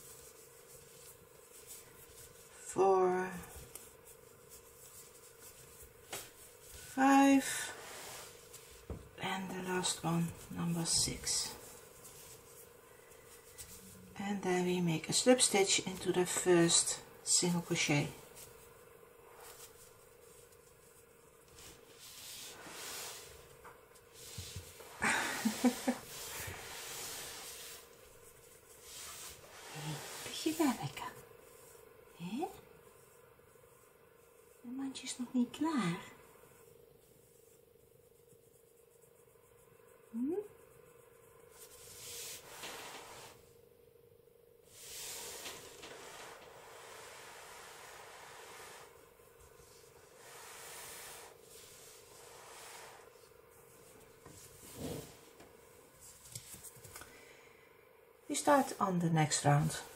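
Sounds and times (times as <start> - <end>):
hand stroking cat fur: 0.0 - 2.7, 3.4 - 16.8, 17.4 - 31.9, 36.5 - 43.5, 44.7 - 56.9
faint steady hiss: 0.0 - 59.9.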